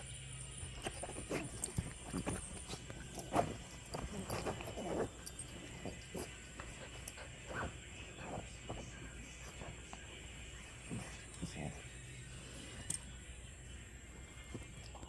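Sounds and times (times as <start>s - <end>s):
dogs snorting and huffing: 0.5s - 13.1s.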